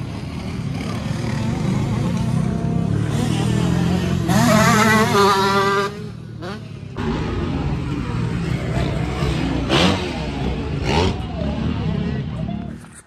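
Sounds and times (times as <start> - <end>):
motocross bike engine revving: 0.0 - 12.6.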